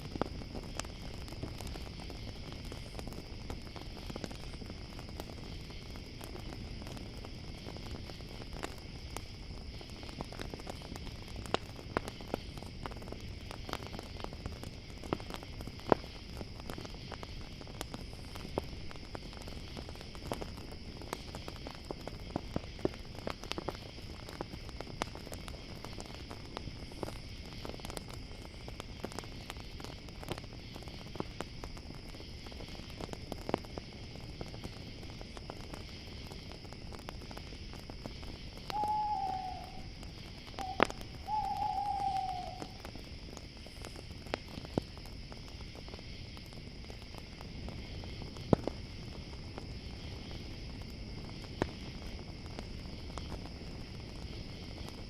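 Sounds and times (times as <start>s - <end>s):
campfire crackling: 0.0s - 55.0s
crickets chirring: 0.0s - 55.0s.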